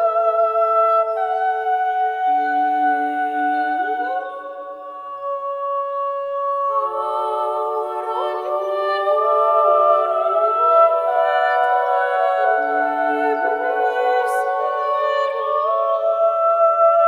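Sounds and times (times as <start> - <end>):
sustained wordless vocal tones: 0.0 - 17.0.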